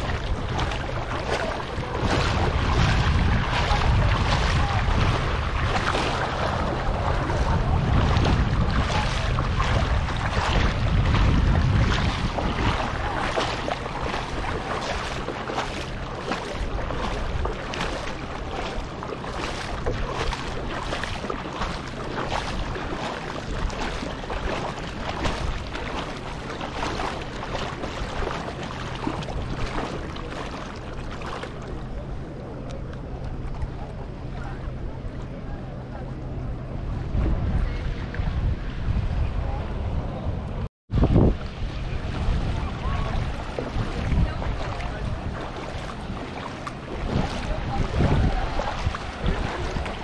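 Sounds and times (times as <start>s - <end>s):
shallow water splashing: 0.0s - 38.3s, 41.4s - 50.0s
wind buffeting microphone: 0.0s - 50.0s.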